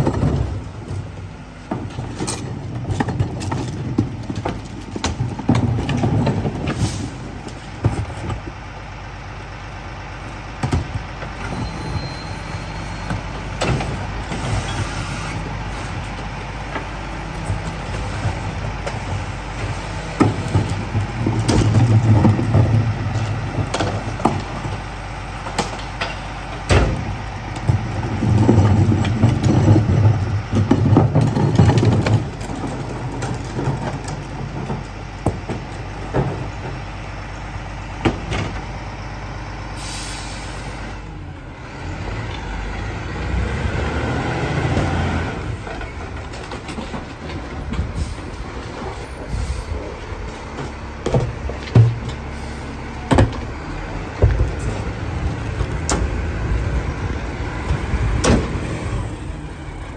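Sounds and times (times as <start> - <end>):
clanks and thuds of trash carts: 0.0 - 9.0, 10.0 - 39.0, 39.8 - 59.9
garbage truck engine: 0.0 - 59.9.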